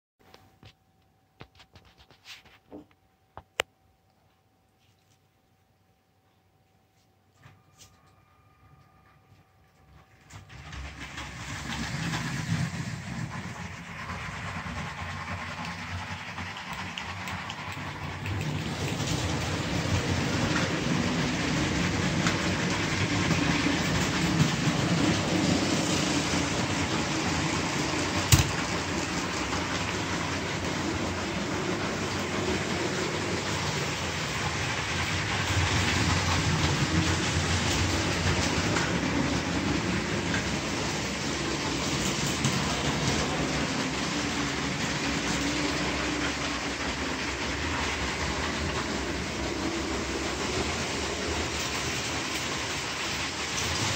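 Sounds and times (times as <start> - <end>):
toy trains running on track: 8.0 - 53.9.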